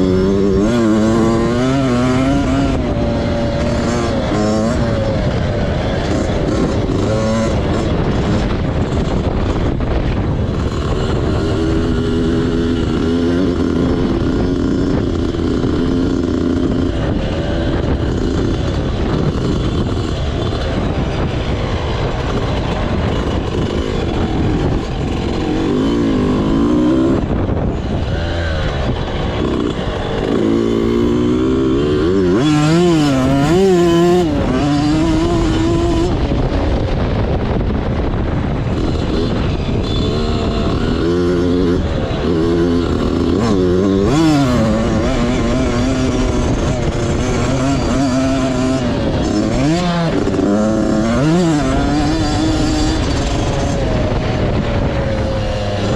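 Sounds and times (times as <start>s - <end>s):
motorbike engine revving: 0.0s - 55.9s
steady rushing noise: 0.0s - 55.9s.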